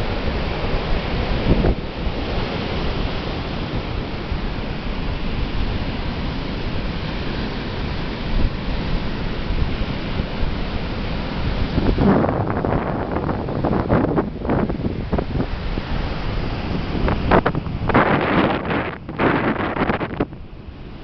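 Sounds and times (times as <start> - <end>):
surf breaking on beach: 0.0 - 21.0.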